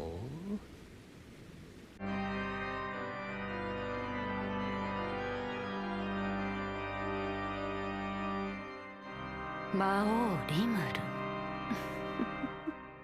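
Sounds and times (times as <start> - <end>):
organ chords: 2.0 - 13.0.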